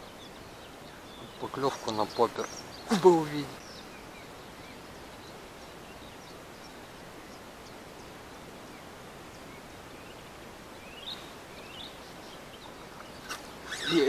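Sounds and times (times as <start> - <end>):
small birds chirping: 0.0 - 14.0
steady faint hiss: 0.0 - 14.0.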